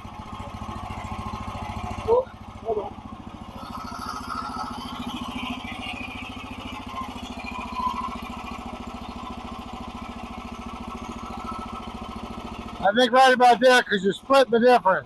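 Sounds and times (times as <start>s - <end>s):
small gasoline engine idling: 0.0s - 15.0s.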